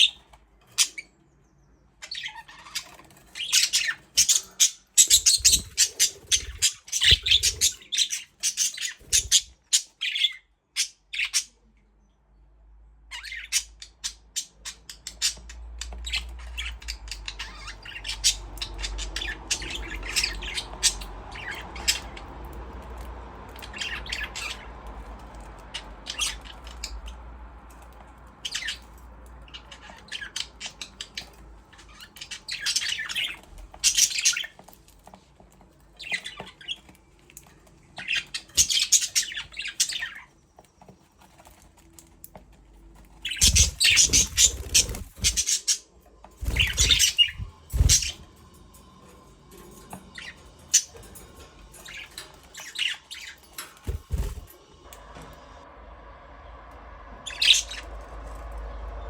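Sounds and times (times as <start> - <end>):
budgerigars chirping and squawking: 0.0 - 11.6, 13.1 - 42.1, 42.9 - 54.5, 57.2 - 58.3.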